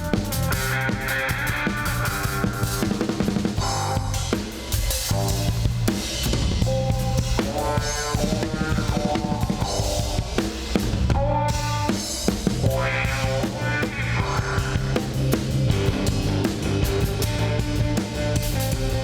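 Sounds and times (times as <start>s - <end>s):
drum kit beat: 0.0s - 19.0s
live band playing: 0.0s - 19.0s.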